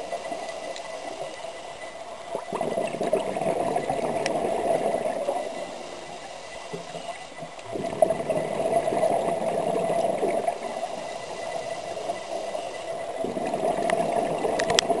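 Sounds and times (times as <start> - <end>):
underwater gurgling bubbles: 0.0 - 15.0.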